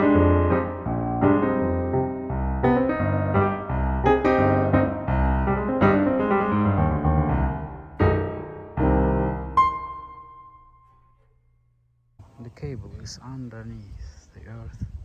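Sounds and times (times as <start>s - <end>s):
piano chords: 0.0s - 12.2s.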